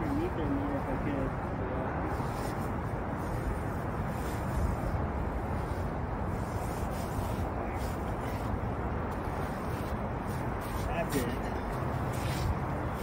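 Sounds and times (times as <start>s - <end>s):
steady rushing noise: 0.0s - 13.0s
rope rubbing over metal railing: 2.0s - 13.0s.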